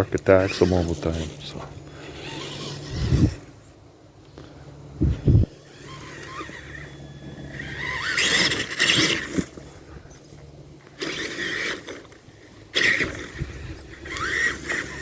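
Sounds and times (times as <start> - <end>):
electric motor whining: 0.0 - 3.9, 4.7 - 15.0
tyres scraping through brush: 0.0 - 15.0.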